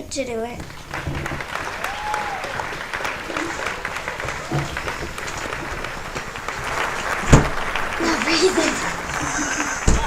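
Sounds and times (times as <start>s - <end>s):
steady clapping: 0.6s - 10.0s.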